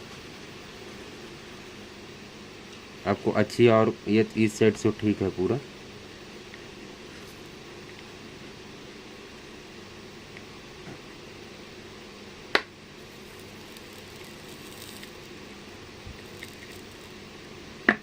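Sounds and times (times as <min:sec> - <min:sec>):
low hum and hiss: 0:00.0 - 0:18.0.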